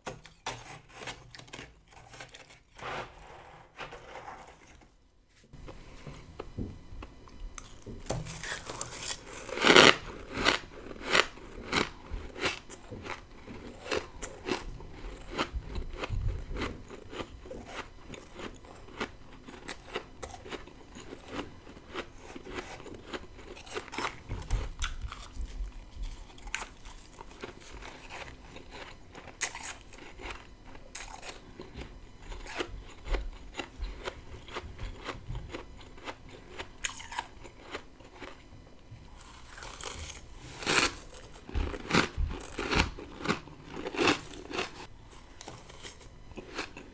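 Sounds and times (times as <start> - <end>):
crunchy chewing of frost: 5.6 - 46.9.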